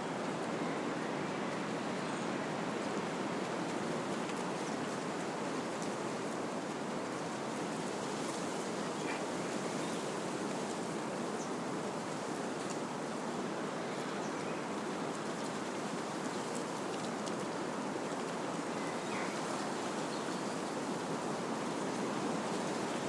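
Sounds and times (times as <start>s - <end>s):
wind rustling leaves: 0.0s - 23.0s.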